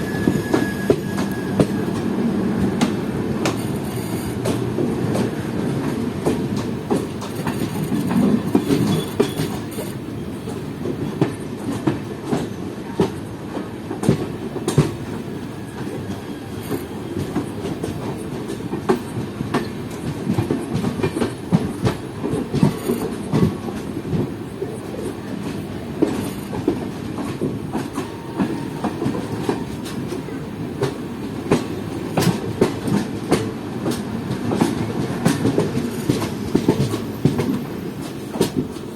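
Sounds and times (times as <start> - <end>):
train rumbling on track: 0.0 - 38.9.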